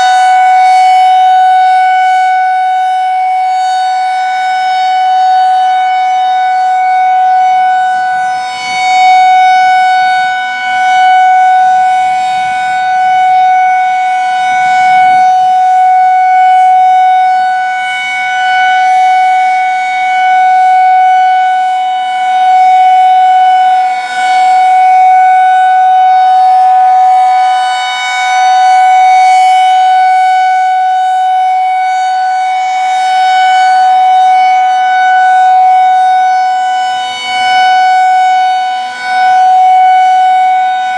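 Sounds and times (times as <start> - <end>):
rotating siren steady tone: 0.0 - 40.9.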